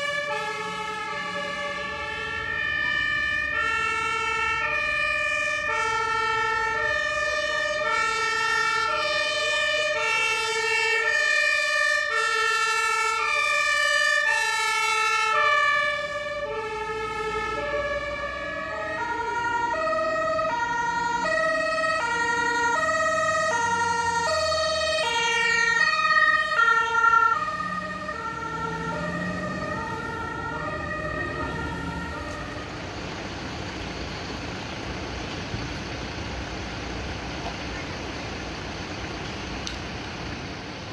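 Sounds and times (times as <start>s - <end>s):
two-tone emergency siren: 0.0s - 33.0s.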